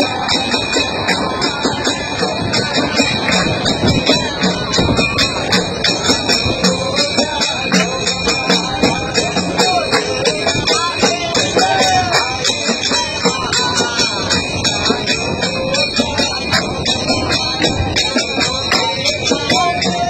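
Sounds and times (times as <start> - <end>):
bright jingling: 0.0 - 20.0
frame drum beat: 0.0 - 20.0
men singing together: 0.0 - 20.0.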